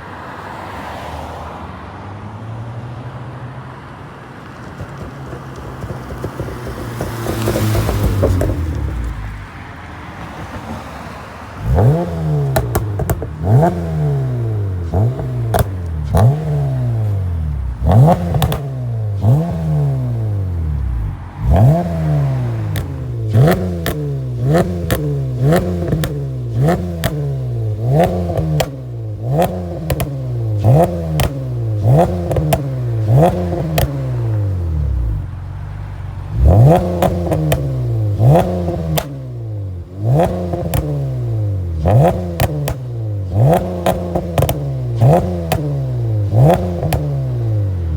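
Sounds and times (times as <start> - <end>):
exhaust pops: 4.6 - 9.6, 11.6 - 47.9
car engine revving: 5.1 - 47.9.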